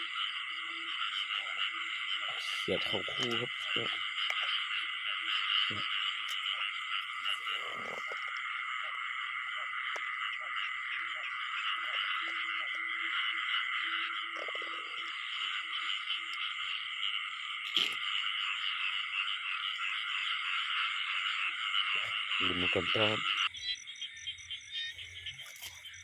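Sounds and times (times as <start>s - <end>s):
frogs trilling chorus: 0.0s - 26.0s
low frog croaks: 0.0s - 26.0s.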